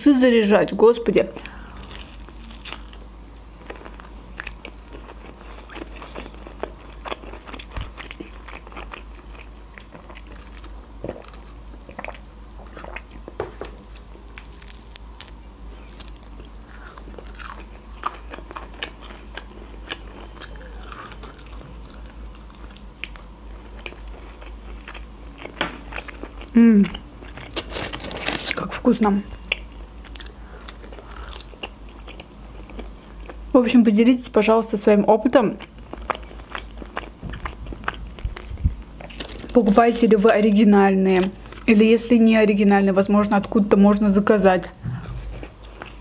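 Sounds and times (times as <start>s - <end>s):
crunchy chewing: 1.4s - 33.5s, 35.3s - 40.1s, 44.6s - 46.0s.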